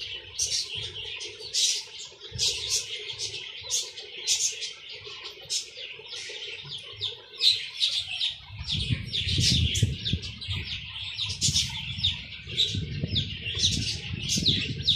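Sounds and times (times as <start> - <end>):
birds and chicks chirping: 0.0 - 14.9.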